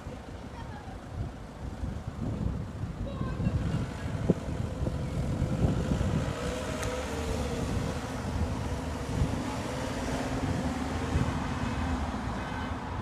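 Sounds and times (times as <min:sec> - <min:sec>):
vehicle engines rumbling: 0:00.0 - 0:13.0
wind buffeting microphone: 0:00.3 - 0:12.2.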